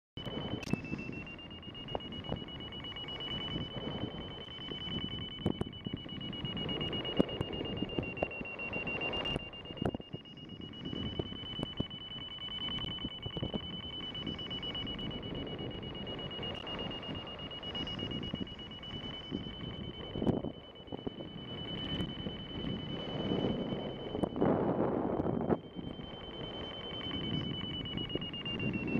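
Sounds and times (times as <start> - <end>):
variometer beeping: 0.2 - 28.9
wind on microphone: 0.2 - 28.9.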